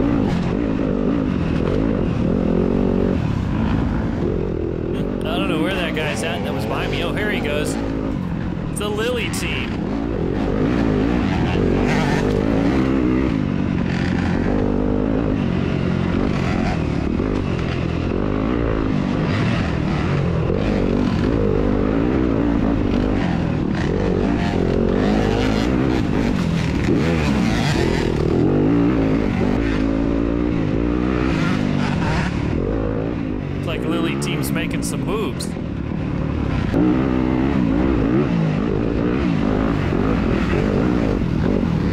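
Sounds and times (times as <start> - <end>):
motorcycle engine revving: 0.0 - 34.2, 35.1 - 41.9.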